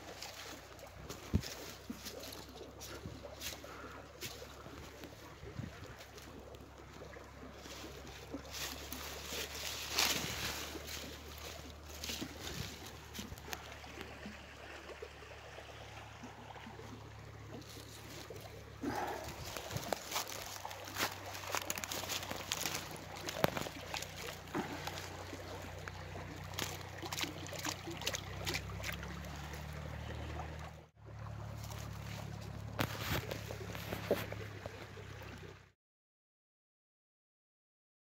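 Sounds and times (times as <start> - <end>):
plants splashing in water: 0.0 - 15.0, 15.6 - 35.4
stream trickling: 0.0 - 35.8.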